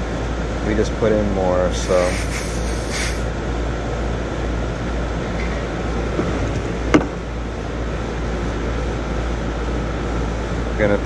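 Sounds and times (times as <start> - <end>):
compressor low hum: 0.0 - 9.3
condenser fan rushing: 0.0 - 11.0.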